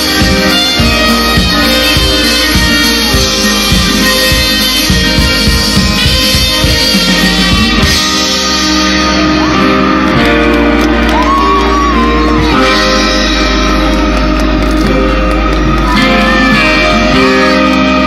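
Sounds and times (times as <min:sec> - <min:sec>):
live band playing: 0:00.0 - 0:18.0
saxophone solo: 0:00.0 - 0:18.0.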